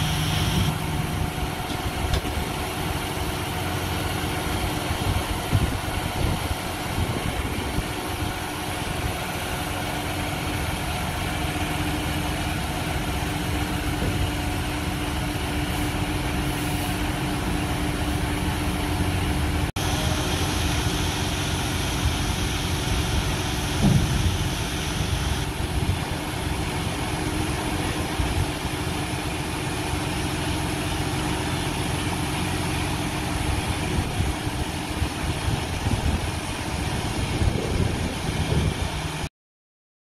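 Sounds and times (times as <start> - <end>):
diesel engine idling: 0.0 - 39.3.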